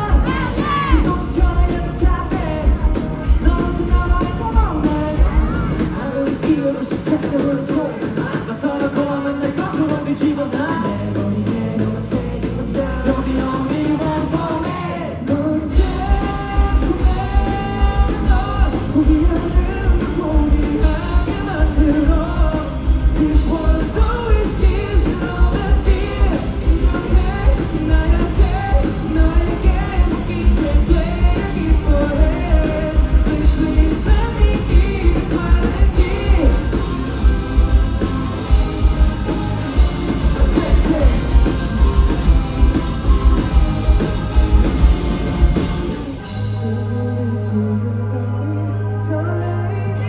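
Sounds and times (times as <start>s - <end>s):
lead singer singing: 0.0s - 50.0s
live rock band: 0.0s - 50.0s.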